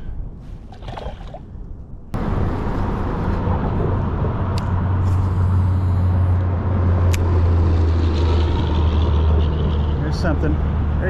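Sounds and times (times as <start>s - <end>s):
road traffic rumble: 2.1s - 11.0s.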